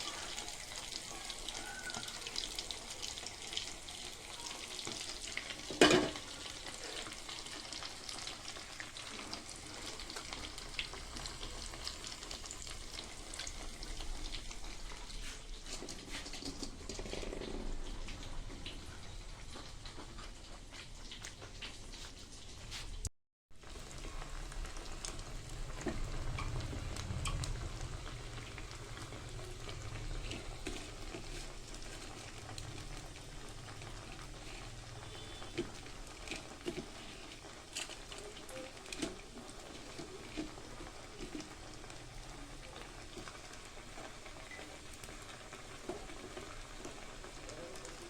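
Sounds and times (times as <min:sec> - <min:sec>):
meat sizzling in hot oil: 0:00.0 - 0:48.0.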